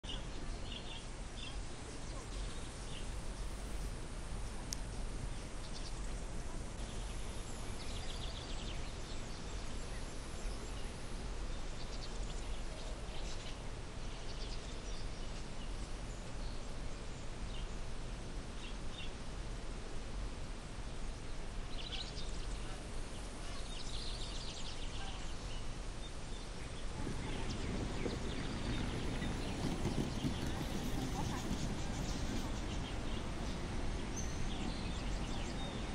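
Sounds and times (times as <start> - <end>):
low noise: 0.0 - 35.9
steady background hiss: 0.1 - 35.9.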